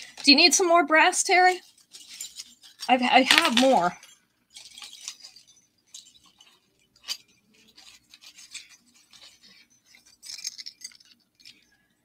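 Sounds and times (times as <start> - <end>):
rustling and scraping of cards: 0.0 - 12.0.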